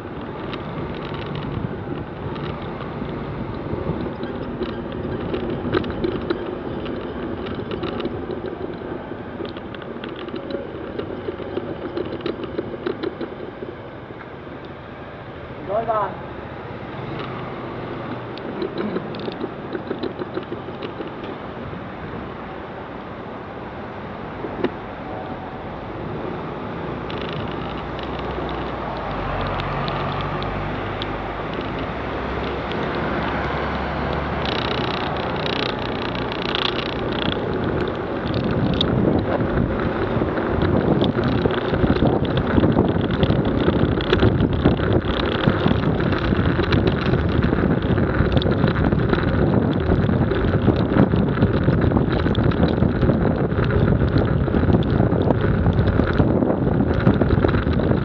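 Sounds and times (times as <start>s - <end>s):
low engine hum: 0.0s - 58.0s
vehicle on wet road: 0.0s - 58.0s
wind buffeting microphone: 0.0s - 58.0s.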